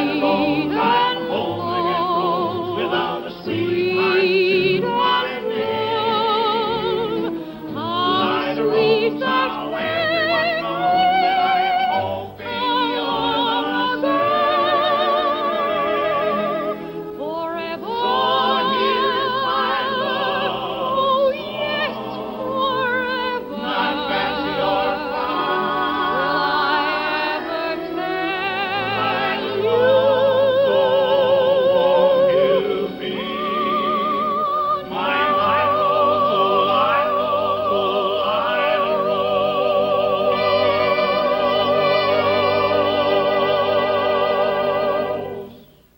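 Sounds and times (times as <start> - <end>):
male quartet singing harmony: 0.0 - 45.8
soprano singing with vibrato: 0.0 - 45.9.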